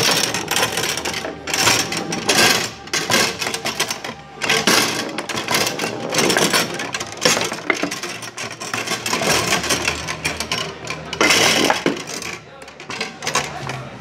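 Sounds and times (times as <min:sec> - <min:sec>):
foosball ball clacking and knocking: 0:00.0 - 0:14.0
metal rods sliding and banging: 0:00.0 - 0:14.0.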